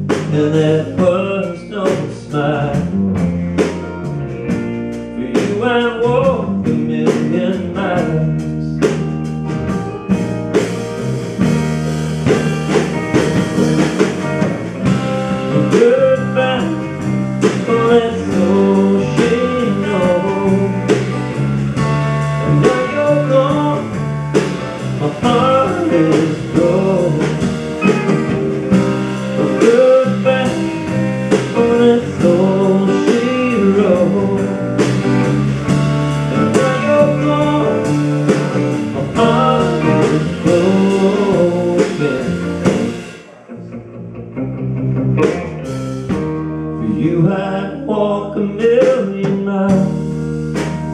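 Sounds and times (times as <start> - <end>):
drum kit: 0.0 - 50.9
electric bass: 0.0 - 50.9
electric guitar lead: 0.0 - 50.9.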